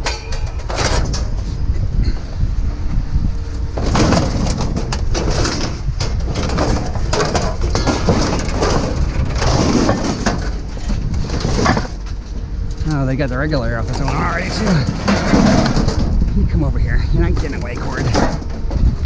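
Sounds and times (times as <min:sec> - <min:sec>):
knocks and clatter: 0:00.0 - 0:02.3, 0:03.7 - 0:19.0
steady low rumble: 0:00.0 - 0:19.0.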